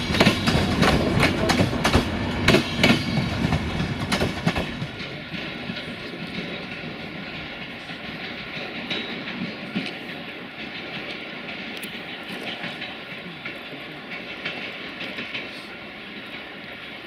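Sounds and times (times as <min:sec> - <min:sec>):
train rolling rumble: 0:00.0 - 0:17.0.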